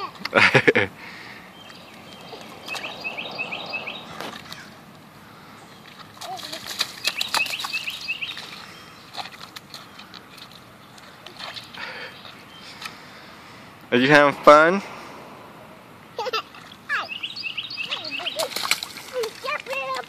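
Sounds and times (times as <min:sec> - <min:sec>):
songbird chirping: 0:01.2 - 0:20.0.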